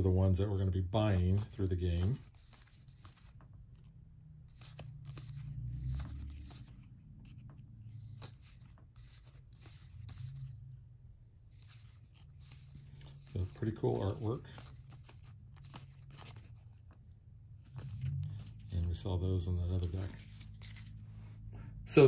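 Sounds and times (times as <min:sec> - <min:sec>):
cardboard cards sliding: 0:01.0 - 0:10.7, 0:11.5 - 0:17.0, 0:17.6 - 0:21.5.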